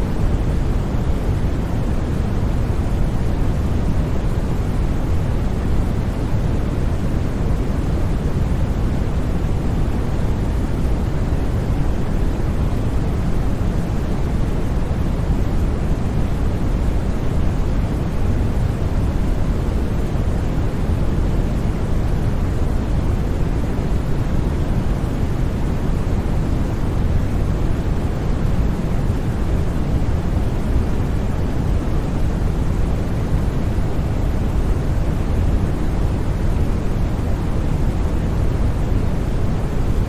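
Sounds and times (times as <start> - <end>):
synthetic white noise: 0.0 - 40.0.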